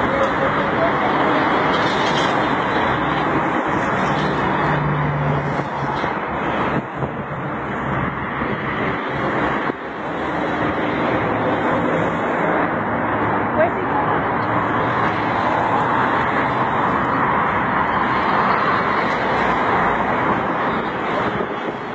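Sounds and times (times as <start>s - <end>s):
street traffic: 0.0s - 21.9s.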